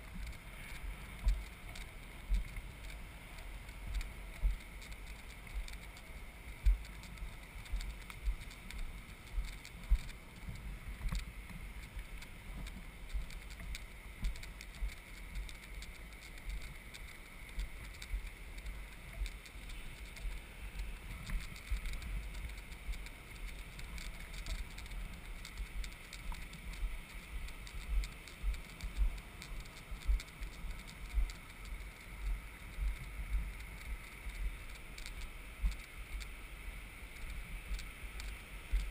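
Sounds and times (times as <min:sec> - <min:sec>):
faint steady whir: 0:00.0 - 0:38.9.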